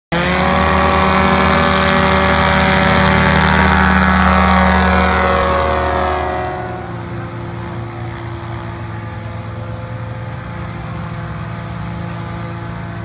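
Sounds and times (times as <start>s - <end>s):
propeller plane engine at full power: 0.1s - 13.0s.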